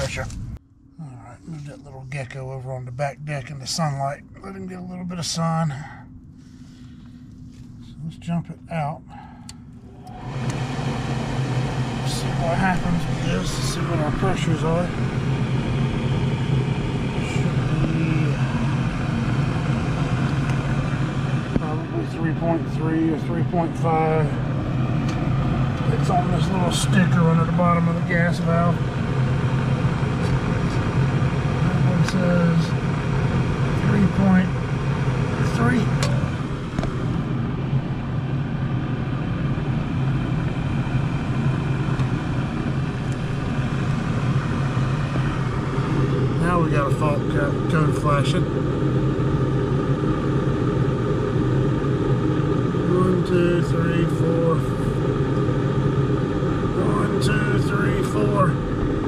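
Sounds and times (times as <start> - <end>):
motor humming: 9.1 - 59.0.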